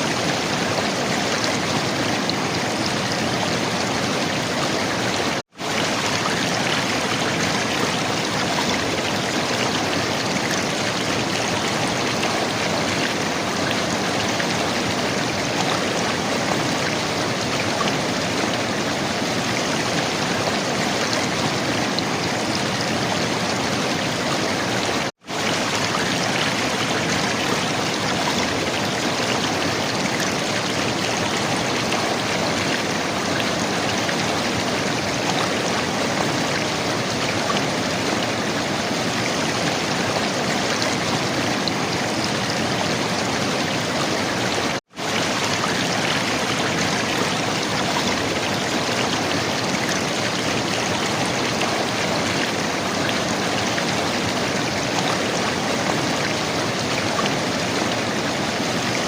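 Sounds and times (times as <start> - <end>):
river water flowing and gurgling: 0.0 - 59.0.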